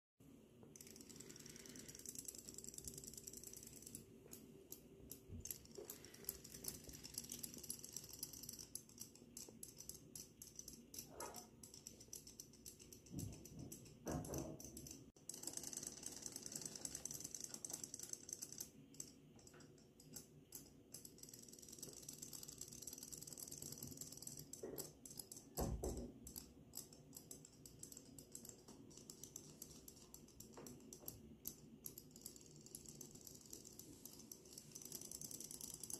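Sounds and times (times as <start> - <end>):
toy motors clicking and whirring: 0.6 - 35.9.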